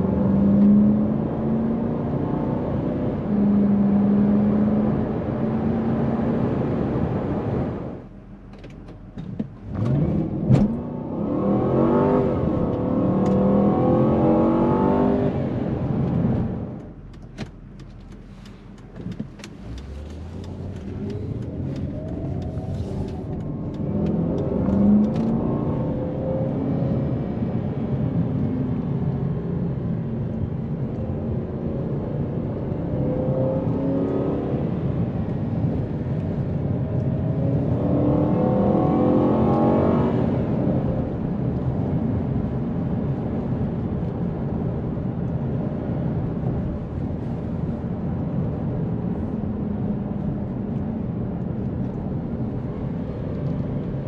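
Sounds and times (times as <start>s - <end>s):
road noise: 0.0s - 54.0s
car engine accelerating: 9.5s - 17.2s, 17.8s - 54.0s.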